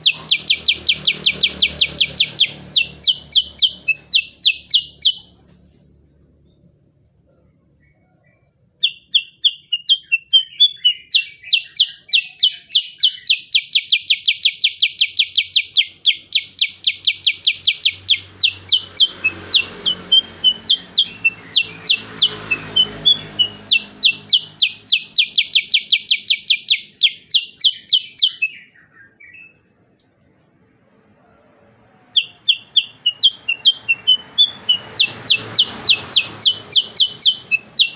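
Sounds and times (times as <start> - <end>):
bulbul singing rapid notes: 0.0 - 5.4, 8.8 - 28.7, 32.2 - 37.9.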